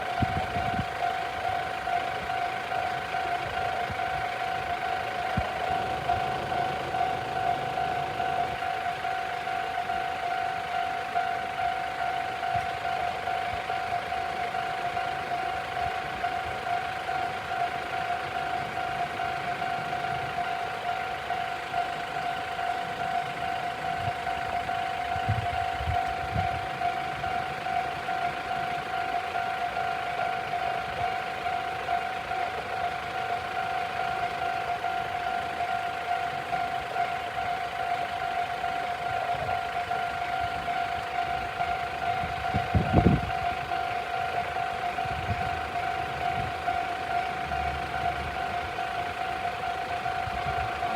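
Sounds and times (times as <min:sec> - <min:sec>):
level crossing alarm ringing: 0:00.0 - 0:50.9.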